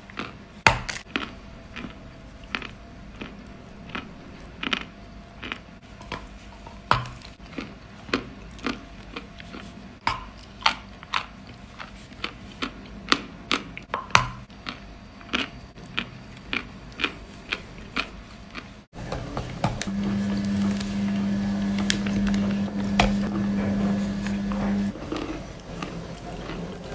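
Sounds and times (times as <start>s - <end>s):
cookie crunching while chewed: 0.0s - 18.8s, 19.5s - 26.9s.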